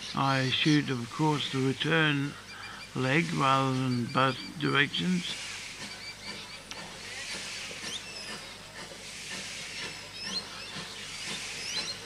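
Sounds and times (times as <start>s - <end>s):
steady hiss: 0.0s - 12.0s
train carriages rolling past: 0.0s - 12.0s.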